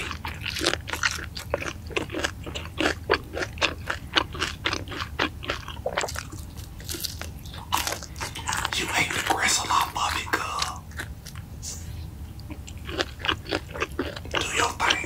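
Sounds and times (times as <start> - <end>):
crunchy chewing of fried chicken: 0.0 - 15.0.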